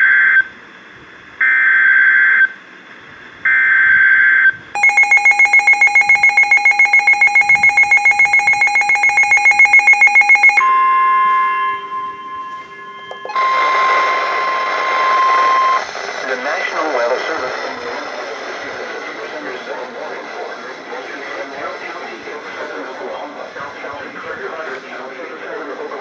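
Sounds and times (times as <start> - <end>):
steady warning tone: 3.5 - 26.0.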